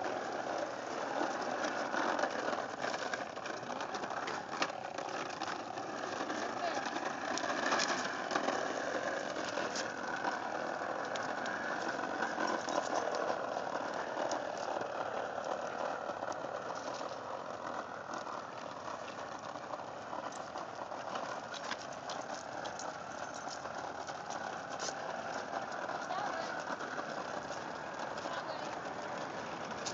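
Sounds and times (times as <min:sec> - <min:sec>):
push lawn mower rattling on concrete: 0:00.0 - 0:29.9.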